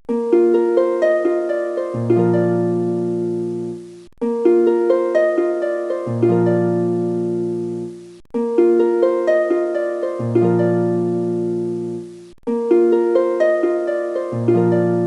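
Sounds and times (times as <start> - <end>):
plucked string melody: 0.1 - 15.0.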